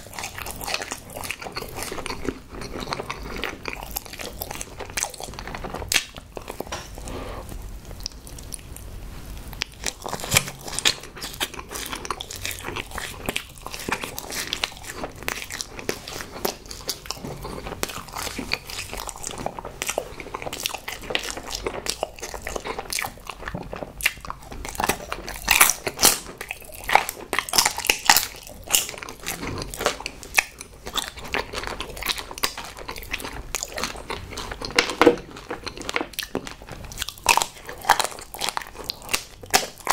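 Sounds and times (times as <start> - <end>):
chewing crunchy sweets: 0.0 - 39.9.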